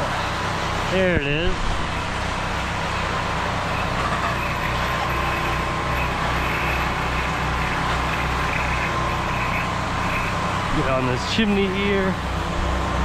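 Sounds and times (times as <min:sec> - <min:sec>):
low engine hum: 0:00.0 - 0:13.0
water spraying from spray gun: 0:00.1 - 0:12.0.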